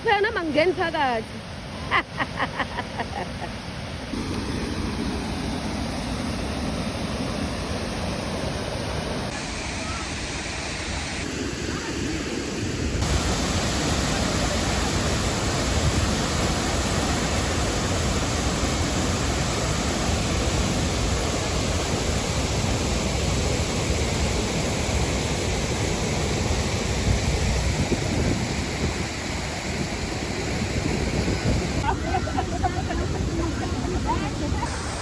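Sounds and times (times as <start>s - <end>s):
waterfall rushing: 4.0s - 35.0s.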